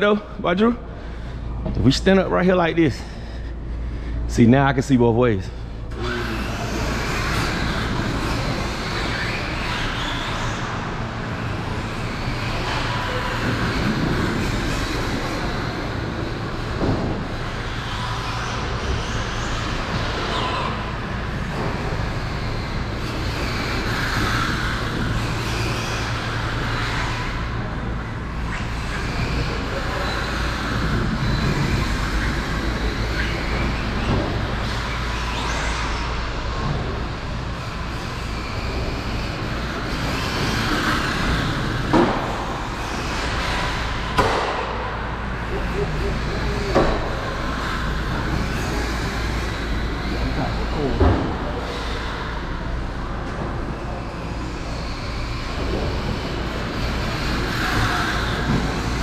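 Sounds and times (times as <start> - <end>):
steady low hum: 0.0 - 59.0
rc car motors whining: 5.9 - 59.0.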